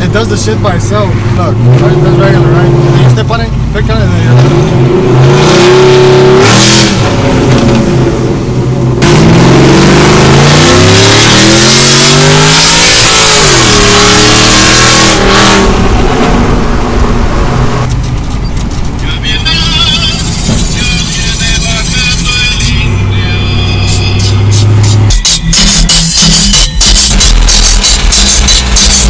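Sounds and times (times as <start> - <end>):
truck engine accelerating hard: 0.0 - 29.0.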